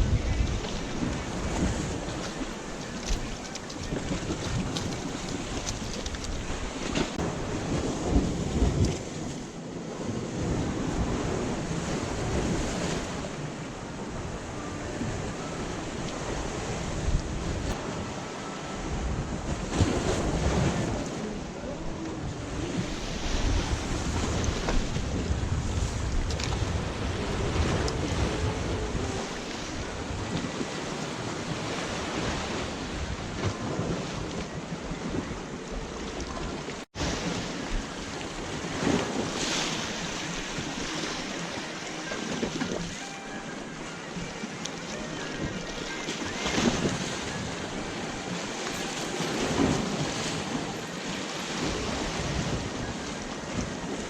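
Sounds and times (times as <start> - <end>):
wind buffeting microphone: 0.0 - 43.0, 43.8 - 54.0
waves washing on shore: 0.0 - 54.0.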